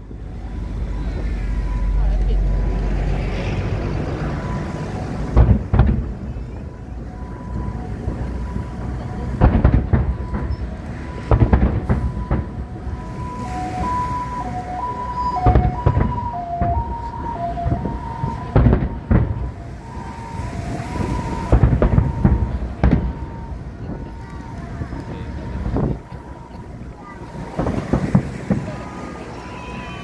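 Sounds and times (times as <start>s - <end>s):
two-tone siren: 0.0s - 30.0s
fireworks booming and cracking: 4.2s - 30.0s.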